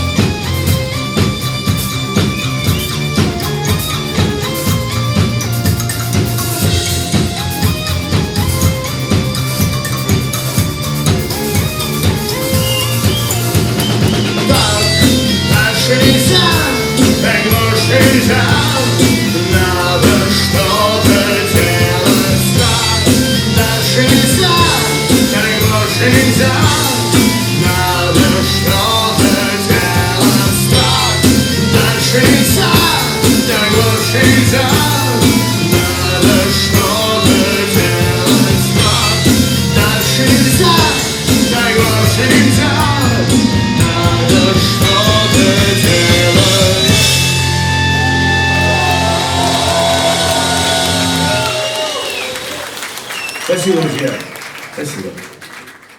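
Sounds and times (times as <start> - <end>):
bass guitar: 0.0 - 52.3
melodic lead instruments: 0.0 - 52.8
drum kit: 0.0 - 53.0.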